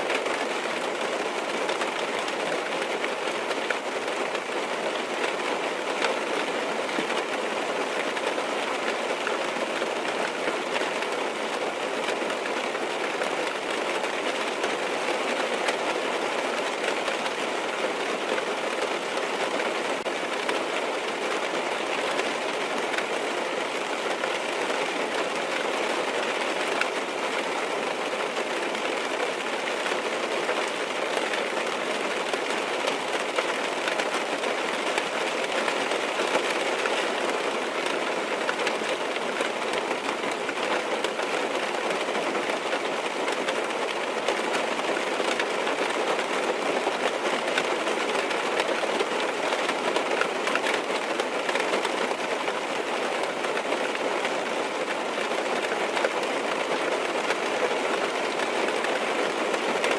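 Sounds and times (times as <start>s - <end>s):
rain on a car roof: 0.0s - 59.9s.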